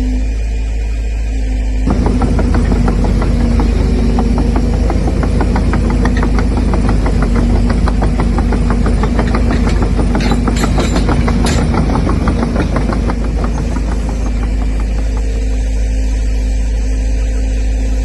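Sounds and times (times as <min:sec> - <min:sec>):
rapid clicking and rattling: 0:01.8 - 0:16.6
electric motor whining: 0:01.9 - 0:16.9.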